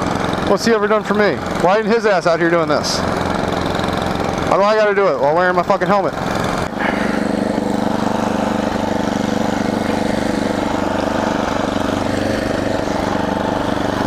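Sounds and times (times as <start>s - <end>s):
snowblower engine running: 0.0s - 14.0s.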